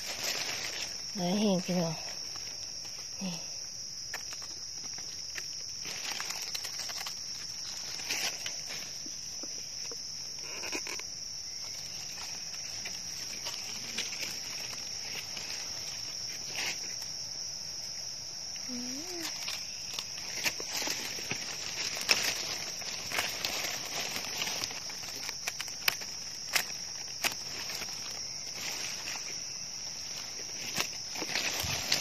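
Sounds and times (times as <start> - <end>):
insect chorus trilling: 0.0 - 32.0
leaf litter rustling: 0.0 - 32.0.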